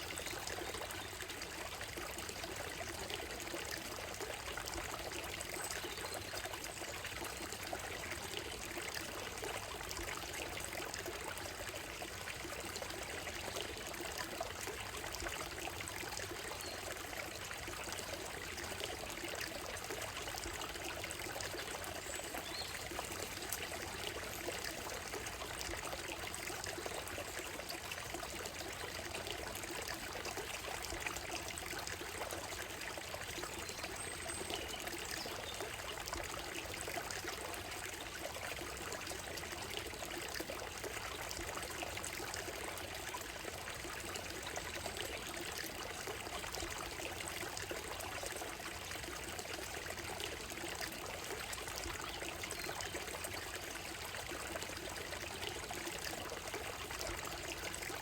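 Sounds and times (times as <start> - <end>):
stream trickling over gravel: 0.0 - 58.0.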